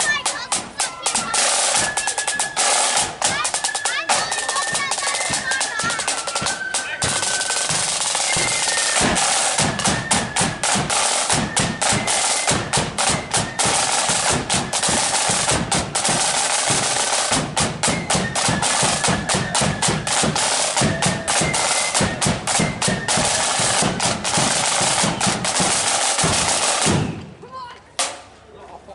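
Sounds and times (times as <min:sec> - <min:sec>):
snare drum rolls: 0:00.0 - 0:27.4, 0:28.0 - 0:28.3.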